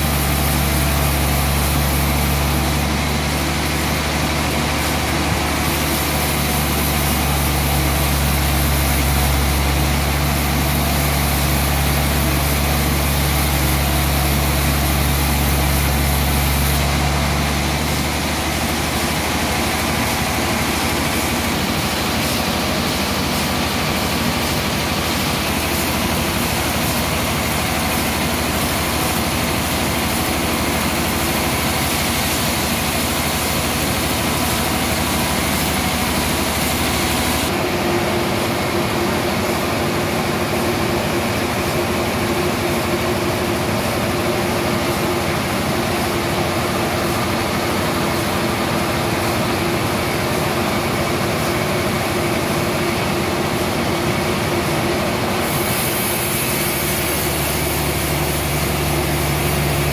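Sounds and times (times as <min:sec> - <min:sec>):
band saw running: 0:00.0 - 0:59.9.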